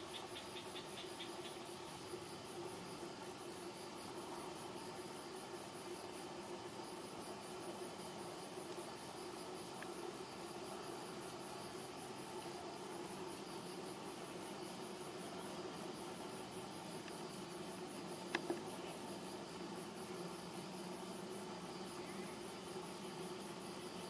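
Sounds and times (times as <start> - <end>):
high rhythmic insect chirping: 0.0 - 24.0
lower insect trill: 0.0 - 24.0.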